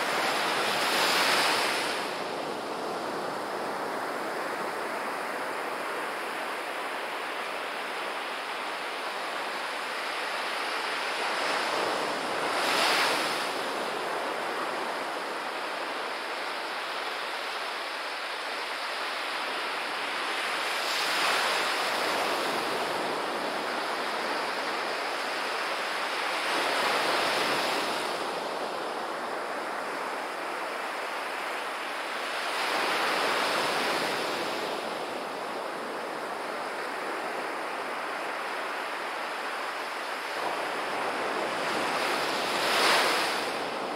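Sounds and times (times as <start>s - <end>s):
waves breaking on sandy beach: 0.0s - 43.9s.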